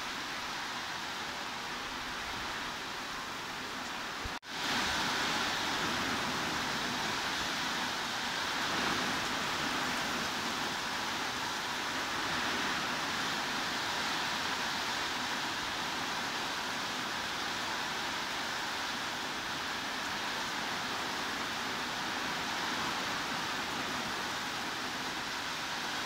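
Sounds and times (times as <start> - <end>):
heavy rain hiss: 0.0 - 26.0.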